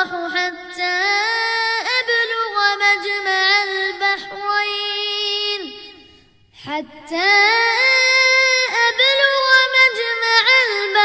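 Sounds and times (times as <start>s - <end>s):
child reciting melodically: 0.0s - 5.7s, 6.6s - 11.0s.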